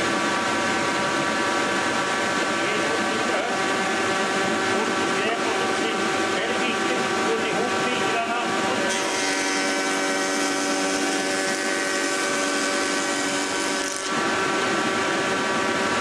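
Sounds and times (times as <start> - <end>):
board being planed whirring: 0.0 - 16.0
planer humming: 0.0 - 16.0.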